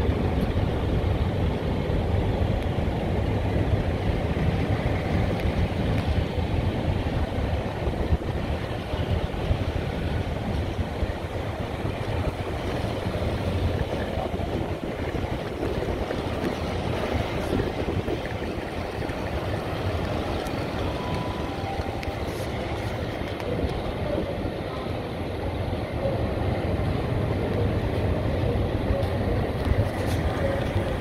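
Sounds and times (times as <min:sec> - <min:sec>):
train rolling on rails: 0:00.0 - 0:31.0.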